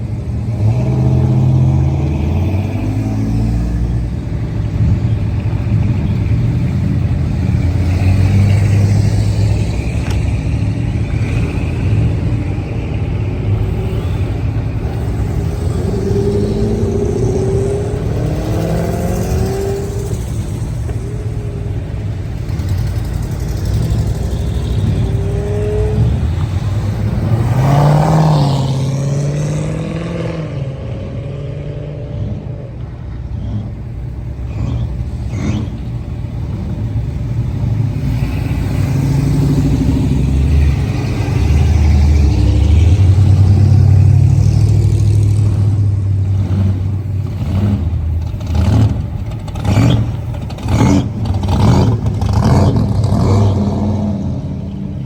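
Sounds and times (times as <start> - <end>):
car engine running: 0.0 - 29.4, 32.8 - 55.0.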